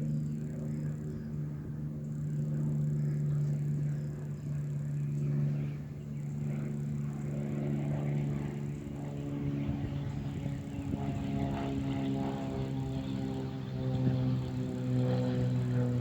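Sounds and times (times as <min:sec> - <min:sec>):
faint higher hum: 0:00.0 - 0:16.0
low mechanical hum: 0:00.0 - 0:16.0.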